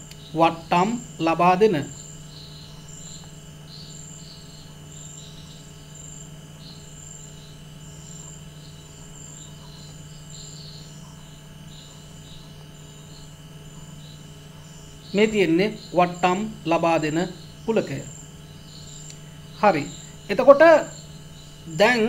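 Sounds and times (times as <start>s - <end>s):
insects chirping: 0.0s - 22.0s
steady low hum: 0.0s - 22.0s.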